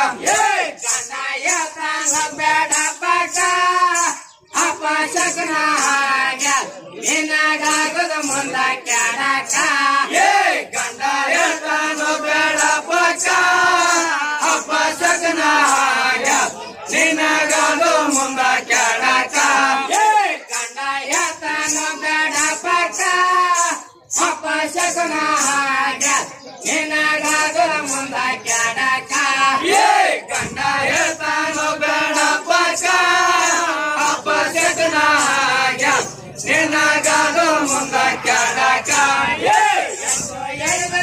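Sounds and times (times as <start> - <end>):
men singing in unison: 0.0 - 41.0.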